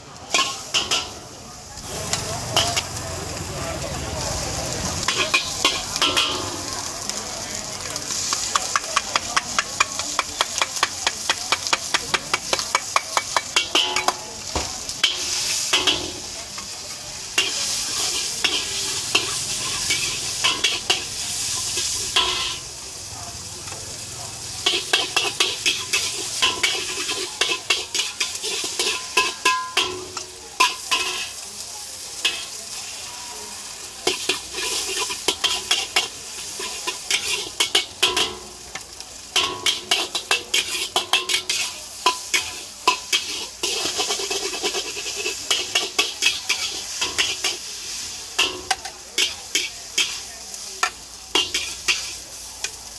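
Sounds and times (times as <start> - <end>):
oil sizzling: 0.0 - 52.9
metal spatula scraping a wok: 0.3 - 1.2, 5.0 - 7.1, 8.0 - 22.7, 24.6 - 31.4, 32.1 - 33.0, 33.6 - 52.5.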